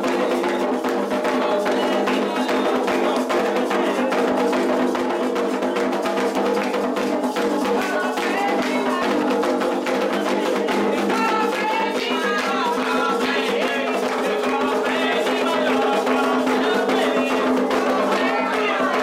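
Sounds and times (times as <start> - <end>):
hand drums rhythm: 0.0 - 19.0
voices singing: 0.0 - 19.0.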